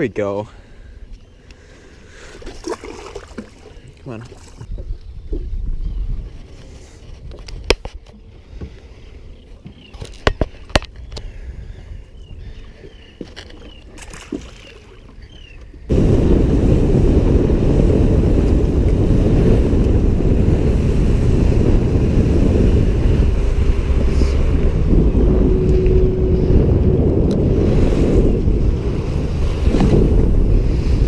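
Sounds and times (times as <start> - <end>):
water noise: 0.0 - 31.0
wind buffeting microphone: 4.6 - 31.0.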